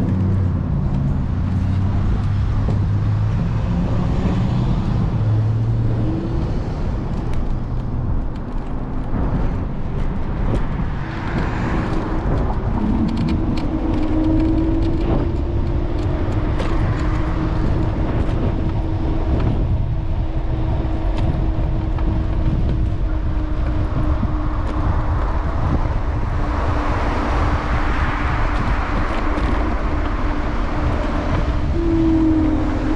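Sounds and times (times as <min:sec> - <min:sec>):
city street traffic: 0:00.0 - 0:32.9
low steady rumble: 0:00.0 - 0:32.9.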